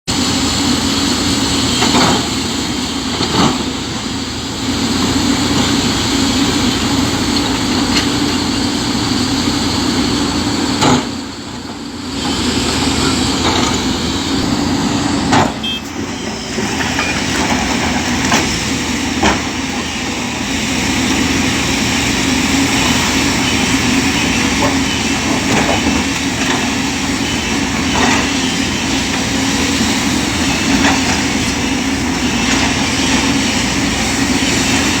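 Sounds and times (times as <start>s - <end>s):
diesel excavator engines: 0.1s - 35.0s.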